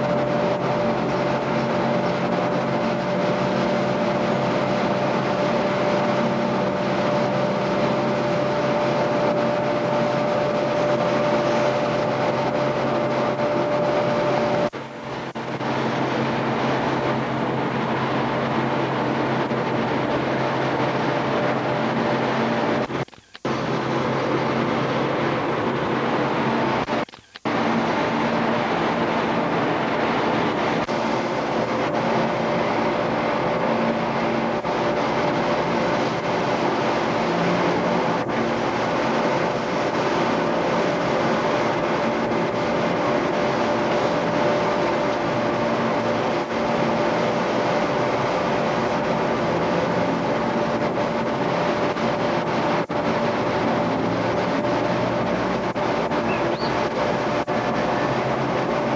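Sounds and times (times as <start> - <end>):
mechanical drone with hiss: 0.0 - 58.9.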